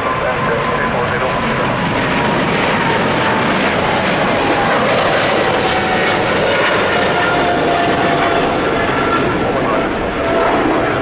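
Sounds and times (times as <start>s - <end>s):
jet engine whine: 0.0s - 11.0s
jet engines roaring: 0.0s - 11.0s.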